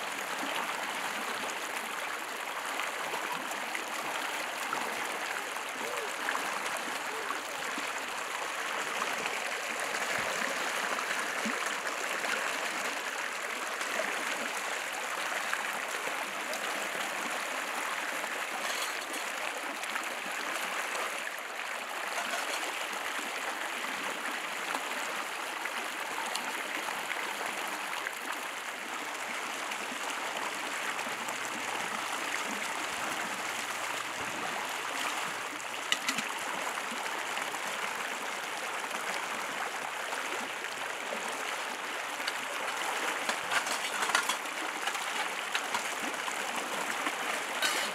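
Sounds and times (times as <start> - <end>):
river rushing over rocks: 0.0 - 28.9, 29.6 - 47.9.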